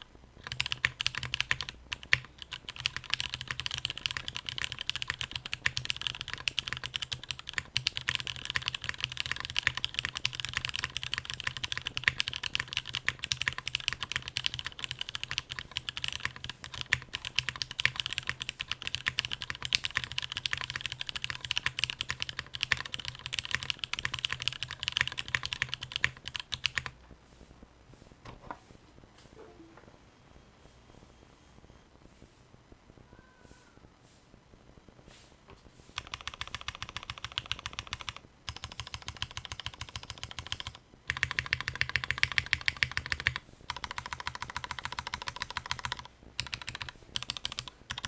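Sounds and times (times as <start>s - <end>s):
fast typing on mechanical keyboard: 0.0s - 27.0s, 36.0s - 48.0s.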